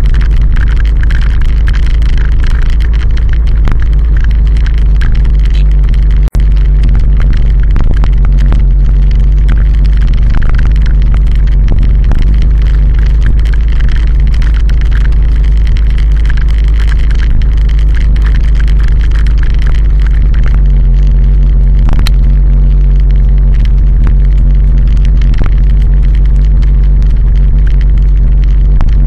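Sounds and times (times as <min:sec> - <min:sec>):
road noise: 0:00.0 - 0:29.0
wind rumble on microphone: 0:00.0 - 0:29.0.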